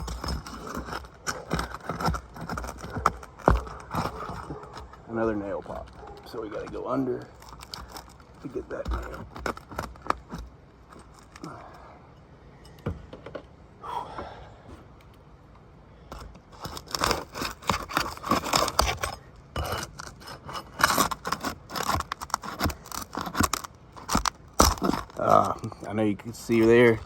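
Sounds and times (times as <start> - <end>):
pry tool scraping shingles: 0.0 - 11.8, 16.0 - 27.0.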